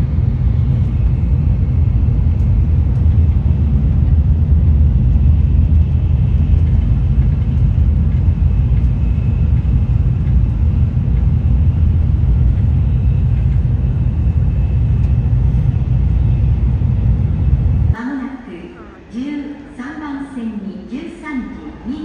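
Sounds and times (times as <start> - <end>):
train interior low rumble: 0.0 - 22.0.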